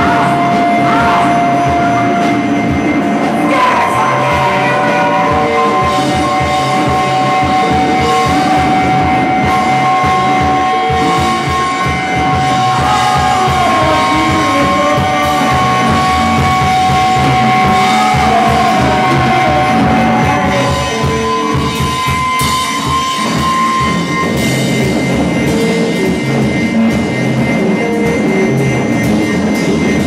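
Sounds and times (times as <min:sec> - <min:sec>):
wavering feedback squeals: 0:00.0 - 0:29.0
high-pitched ringing tones: 0:00.0 - 0:29.7
live rock band playing: 0:00.0 - 0:30.0.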